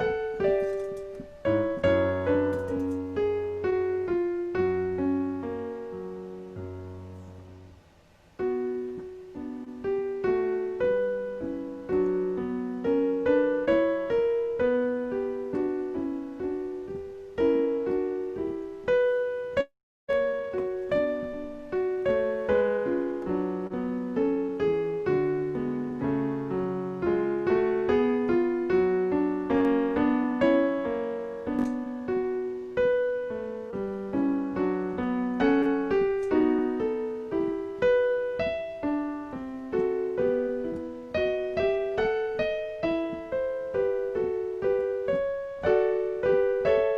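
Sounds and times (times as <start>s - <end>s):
slow solo piano piece: 0.0s - 46.9s.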